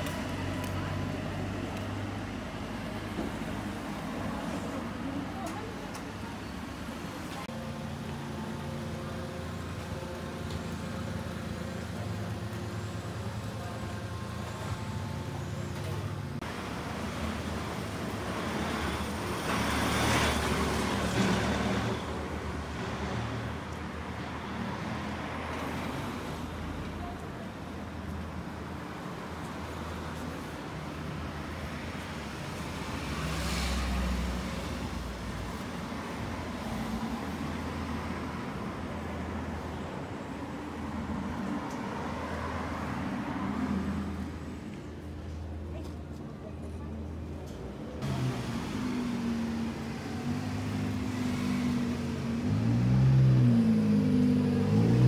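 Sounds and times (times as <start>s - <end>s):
road noise hum: 0.0s - 55.0s
street traffic rumble: 0.0s - 55.0s.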